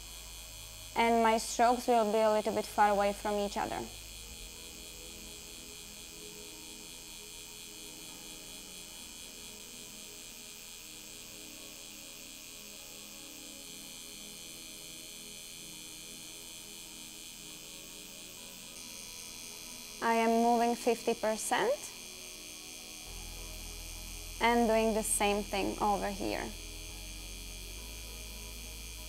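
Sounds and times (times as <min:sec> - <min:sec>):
tattoo machine buzzing: 0:00.0 - 0:29.0.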